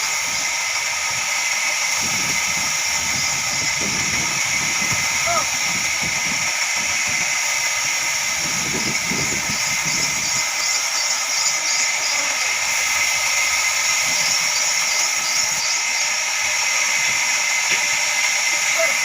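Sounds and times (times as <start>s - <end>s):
band sawmill hissing: 0.0s - 19.0s
machine drone: 0.0s - 19.0s.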